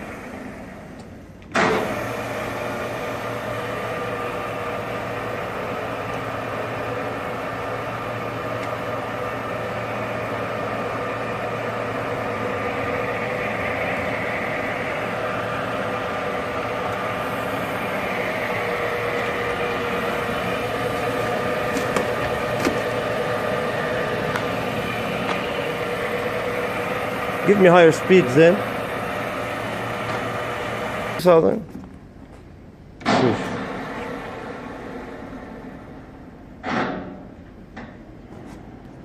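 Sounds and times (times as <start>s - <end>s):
metal lathe humming and whining: 0.0s - 31.4s.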